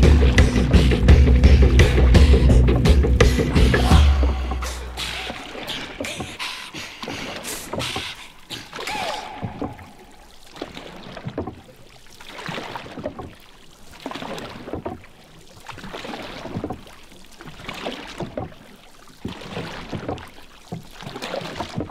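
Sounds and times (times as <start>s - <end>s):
paddles splashing through water: 0.0s - 21.9s.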